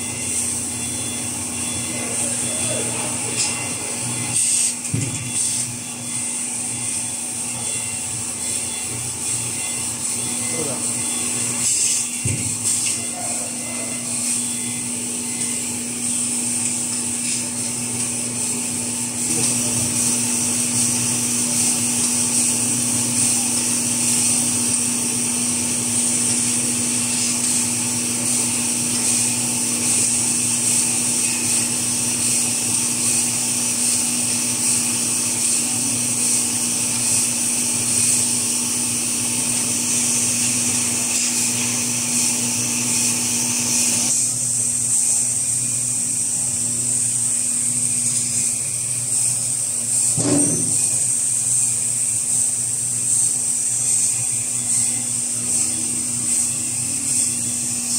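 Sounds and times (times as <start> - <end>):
machinery hum: 0.0 - 57.9.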